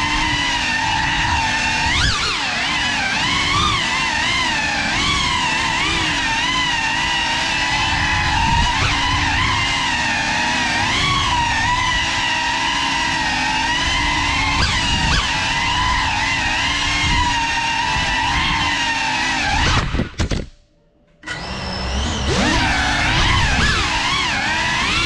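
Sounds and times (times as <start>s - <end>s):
drone motors whining: 0.0s - 20.2s, 21.2s - 25.0s.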